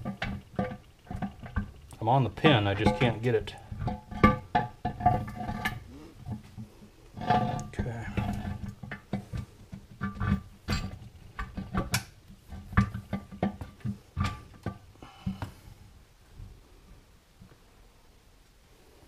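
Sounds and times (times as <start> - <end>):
metal clunks and knocks: 0.0 - 15.6.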